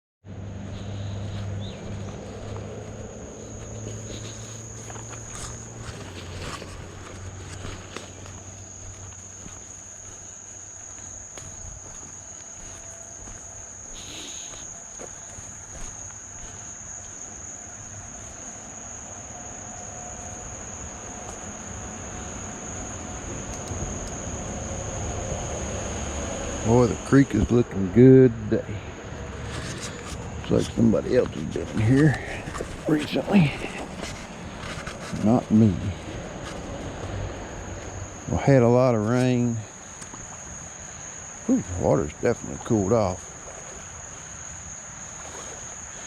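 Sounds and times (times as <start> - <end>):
insects trilling: 0.3 - 46.0.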